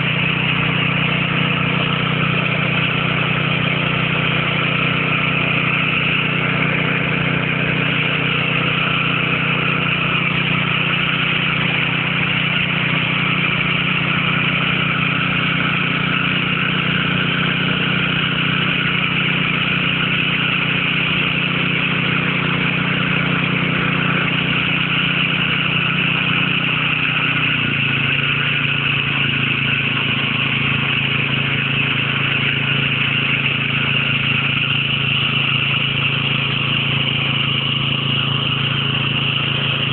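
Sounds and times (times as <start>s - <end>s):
small petrol engine running: 0.0s - 39.9s
water gushing onto ground: 0.0s - 39.9s.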